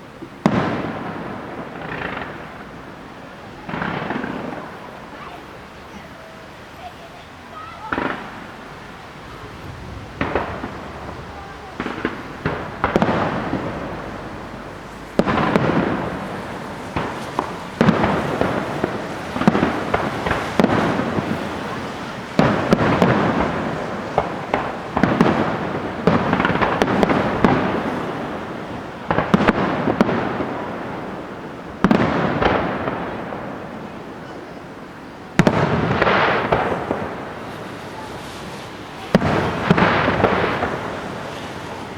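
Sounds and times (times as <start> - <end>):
fireworks bursting with echoing rumble: 0.0 - 6.4, 7.6 - 41.9
small firework reports: 0.0 - 41.9.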